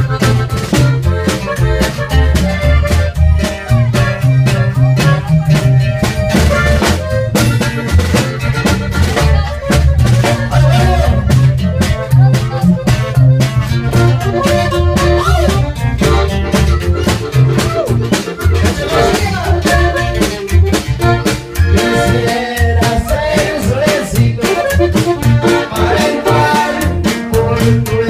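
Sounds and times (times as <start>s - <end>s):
band playing: 0.0s - 28.0s
drum kit steady beat: 0.0s - 28.0s.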